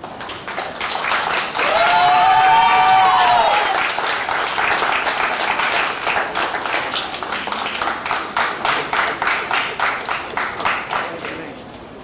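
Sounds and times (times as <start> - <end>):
spectators applauding: 0.0 - 11.6.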